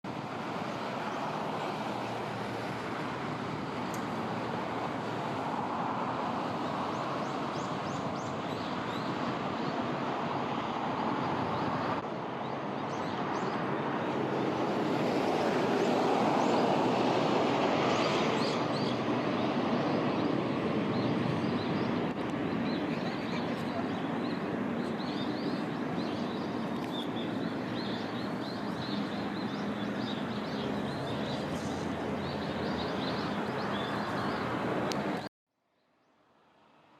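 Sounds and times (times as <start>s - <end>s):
steady rushing noise: 0.1s - 35.3s.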